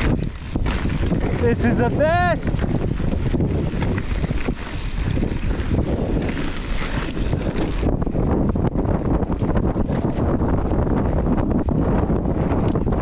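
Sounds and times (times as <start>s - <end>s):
bike rattling over bumps: 0.0s - 13.0s
wind buffeting microphone: 0.0s - 13.0s.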